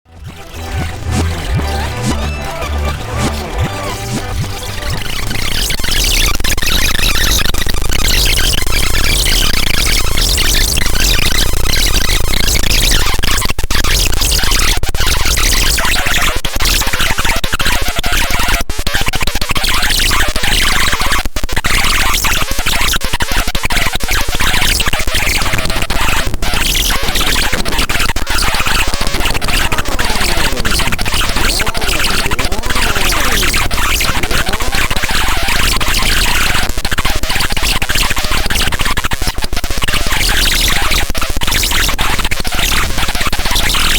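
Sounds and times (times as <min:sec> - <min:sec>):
harsh glitchy electronic toy noise: 0:00.1 - 0:43.9.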